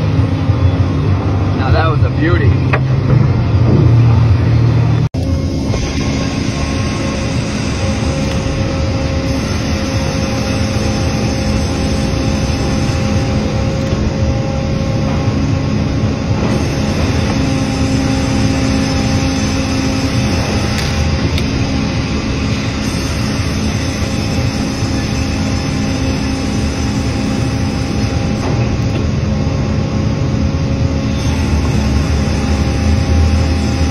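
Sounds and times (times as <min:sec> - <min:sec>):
sawmill machine din: 0:00.0 - 0:33.9.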